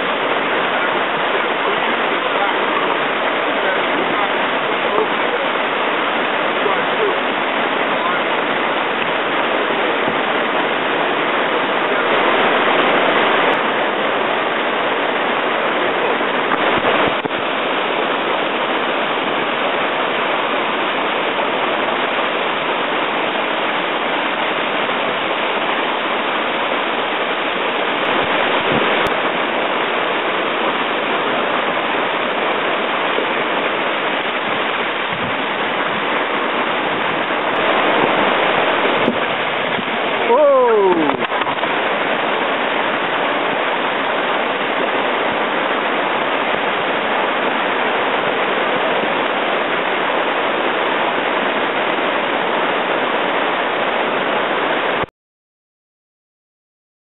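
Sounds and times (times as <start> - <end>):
water rushing over rocks: 0.0 - 55.1.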